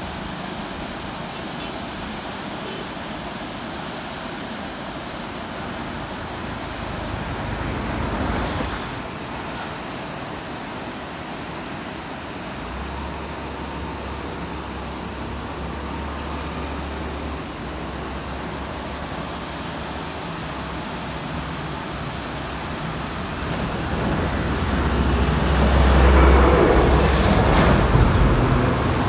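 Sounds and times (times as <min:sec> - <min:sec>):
roar of fast-flowing river: 0:00.0 - 0:29.0.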